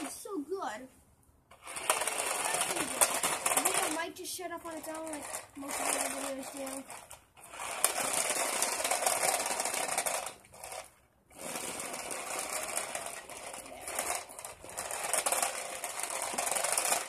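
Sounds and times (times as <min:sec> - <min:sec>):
toy car motors whirring and rattling: 0:00.0 - 0:00.4, 0:01.5 - 0:17.0.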